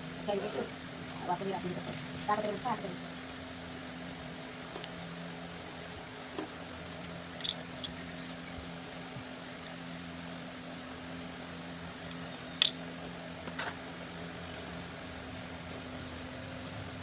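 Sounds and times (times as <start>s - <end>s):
low two-tone hum: 0.0s - 17.0s.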